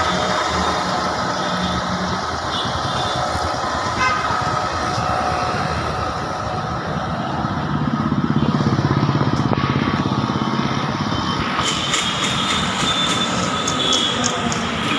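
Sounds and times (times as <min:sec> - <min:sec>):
vehicle engine pulsing: 0:00.0 - 0:14.9.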